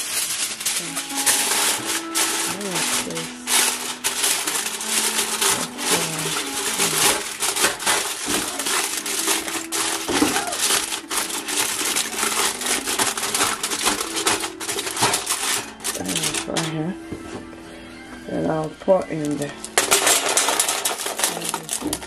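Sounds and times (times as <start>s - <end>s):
aluminium foil crinkling: 0.0s - 17.3s, 18.5s - 22.0s.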